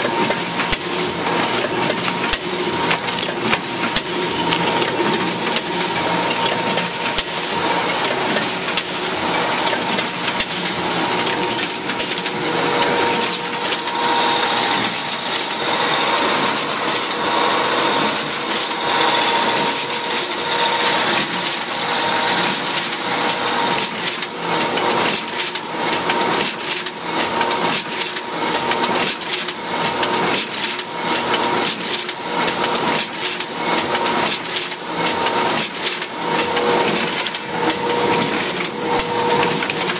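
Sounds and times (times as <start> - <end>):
machine whine: 0.0 - 27.8, 28.4 - 39.9
paper collator clattering: 0.0 - 39.9.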